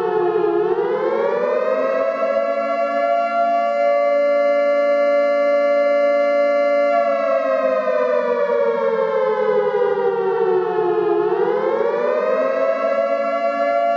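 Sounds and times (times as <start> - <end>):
warning siren wailing: 0.0 - 13.9.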